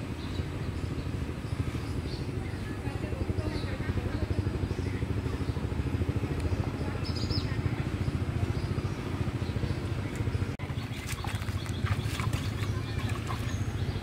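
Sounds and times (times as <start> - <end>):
engine chugging: 0.0 - 14.0.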